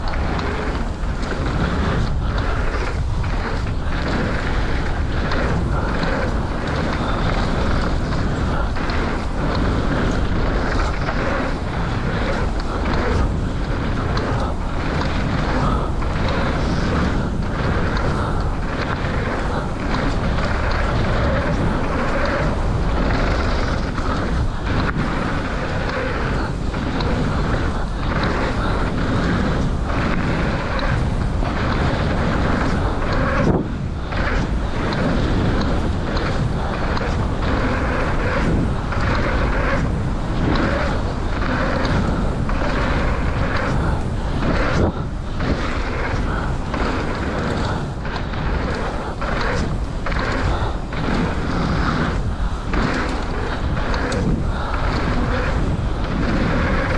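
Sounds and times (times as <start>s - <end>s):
bike clattering over bumps: 0.0s - 56.9s
tyres rumbling over dirt: 0.0s - 56.9s
wind buffeting microphone: 0.0s - 56.9s.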